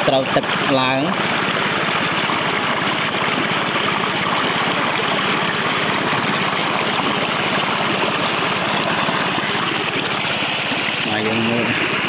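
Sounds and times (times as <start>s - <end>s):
small pump engine chugging: 0.0s - 12.0s
water running through channel: 0.0s - 12.0s.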